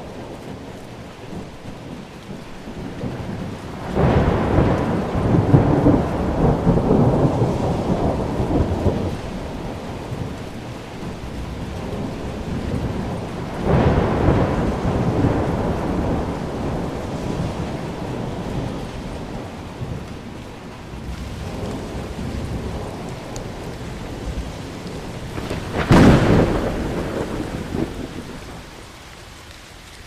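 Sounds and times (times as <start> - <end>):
thunder rumbling: 0.0 - 29.5
steady rain: 0.0 - 30.0.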